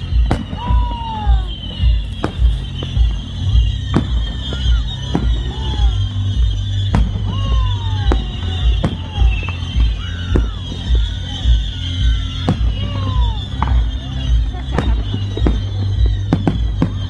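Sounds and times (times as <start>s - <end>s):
fireworks banging: 0.0s - 17.0s
loud music with steady beat: 0.0s - 17.0s.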